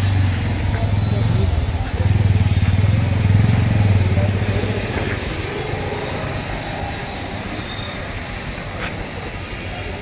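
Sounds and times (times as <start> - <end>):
street traffic hum: 0.0 - 10.0
vehicle engine throbbing: 0.0 - 10.0.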